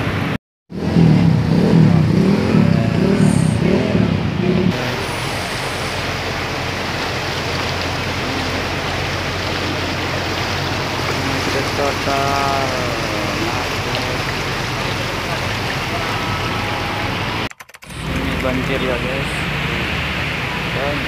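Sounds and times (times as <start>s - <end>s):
vehicle engines: 0.0s - 21.0s
tyres through water: 1.0s - 21.0s.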